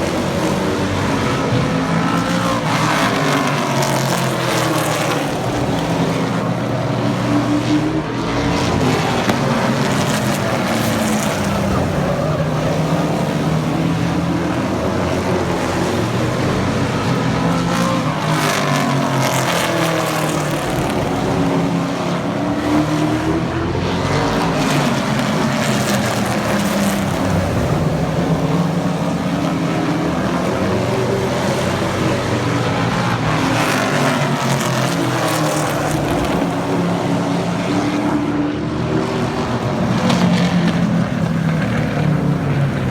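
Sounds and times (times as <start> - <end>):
race truck engines passing: 0.0 - 42.9.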